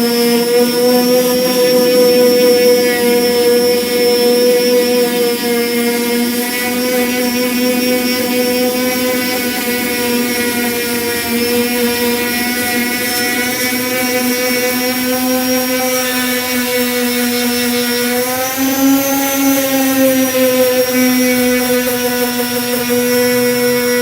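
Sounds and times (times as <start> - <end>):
power sander running: 0.0 - 24.0.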